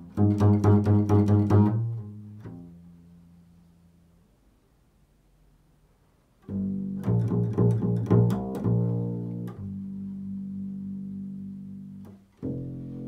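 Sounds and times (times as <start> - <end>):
plucked double bass: 0.0 - 4.3, 6.4 - 13.0.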